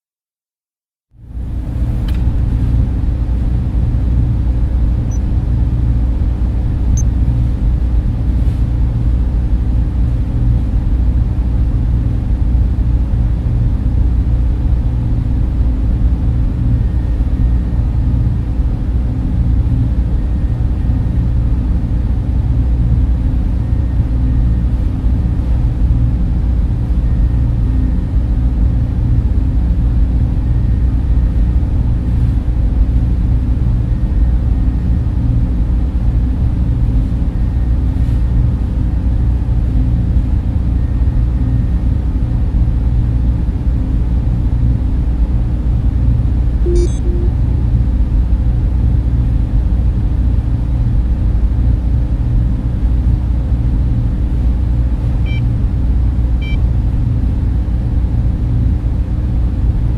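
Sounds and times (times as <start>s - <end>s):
server cooling fans droning: 1.2s - 59.9s.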